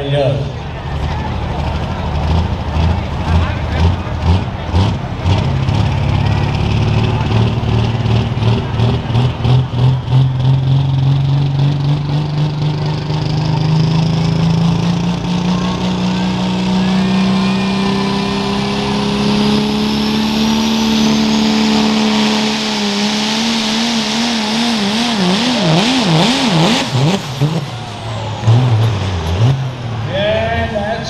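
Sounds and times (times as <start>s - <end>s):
diesel truck engine at full throttle: 0.0s - 31.0s.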